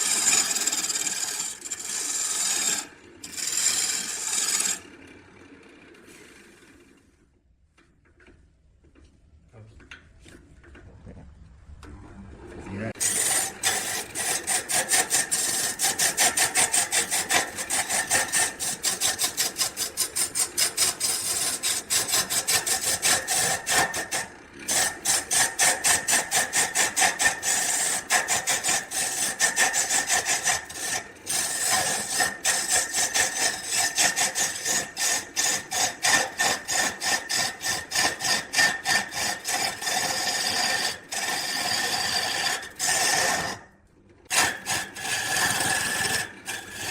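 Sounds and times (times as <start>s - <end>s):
hand tool rasping on wood: 0.0s - 4.8s, 13.0s - 43.6s, 44.3s - 46.9s.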